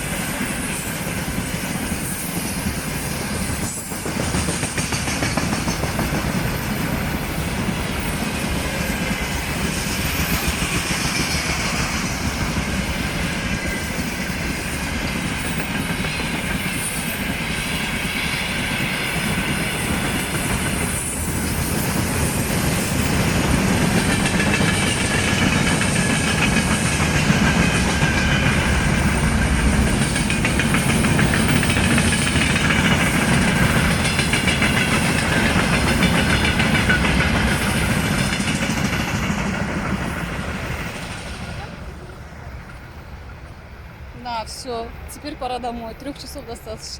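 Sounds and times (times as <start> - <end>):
freight train rolling past: 0.0 - 46.9.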